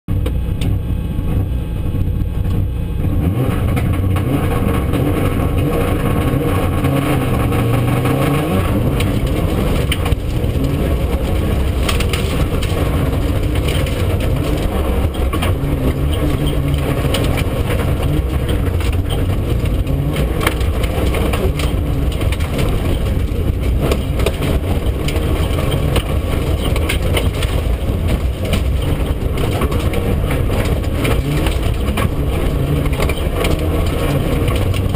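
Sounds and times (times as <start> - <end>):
gravel rattling against car underbody: 0.1 - 34.9
car engine revving hard: 2.5 - 34.9.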